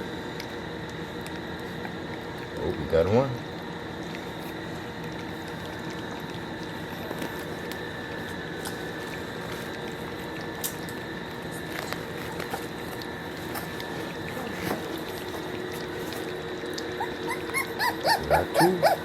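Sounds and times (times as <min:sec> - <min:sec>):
background hum: 0:00.0 - 0:19.0
puppies lapping wet food: 0:00.0 - 0:19.0.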